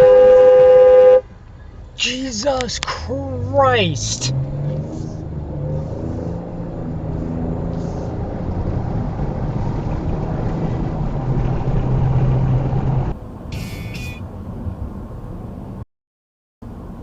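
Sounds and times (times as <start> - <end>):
car engine and road noise: 0.0 - 15.8, 16.6 - 17.0.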